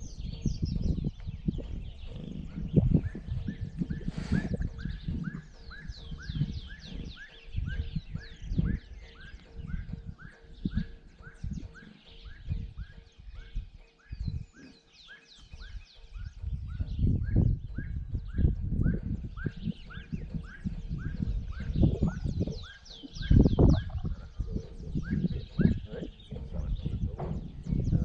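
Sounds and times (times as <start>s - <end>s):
birds singing: 0.0s - 28.0s
wind buffeting microphone: 0.0s - 28.0s.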